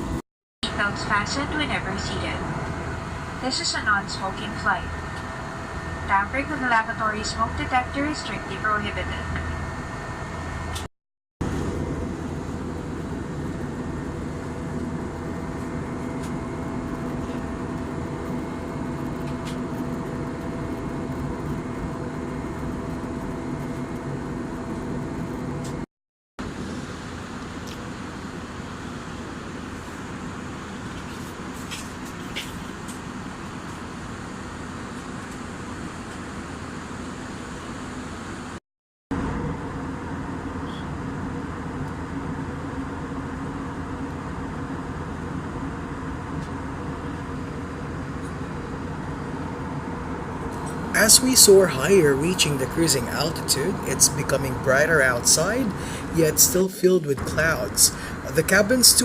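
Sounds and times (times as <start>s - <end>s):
airplane cabin engine hum: 0.0s - 59.0s.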